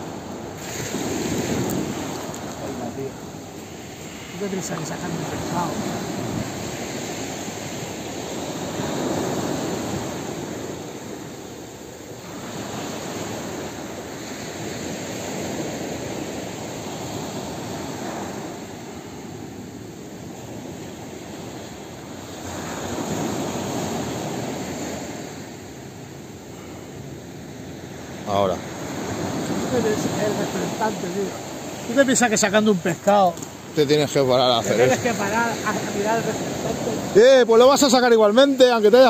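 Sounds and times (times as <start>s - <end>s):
sea waves breaking on sand: 0.0s - 39.0s.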